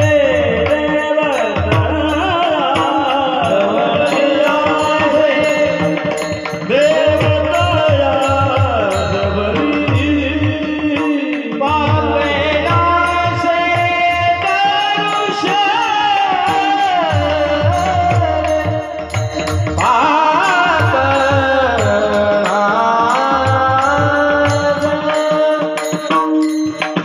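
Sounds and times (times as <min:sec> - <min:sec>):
drum beat: 0:00.0 - 0:27.0
person singing devotional song: 0:00.0 - 0:27.0.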